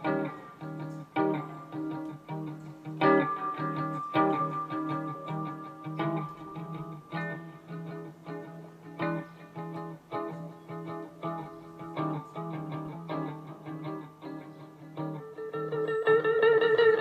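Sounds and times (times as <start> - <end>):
guitar playing plucked chords: 0.0 - 17.0
held melodic line: 0.0 - 17.0.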